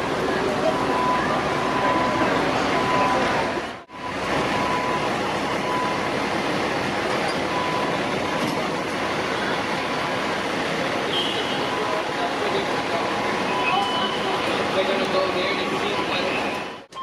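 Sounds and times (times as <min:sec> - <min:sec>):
fire truck road rumble: 0:00.0 - 0:17.0.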